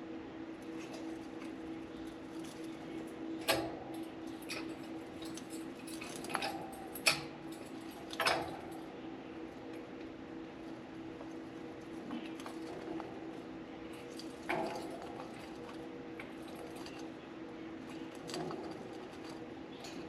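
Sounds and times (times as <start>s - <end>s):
birds pecking and chewing wood: 0.5s - 20.0s.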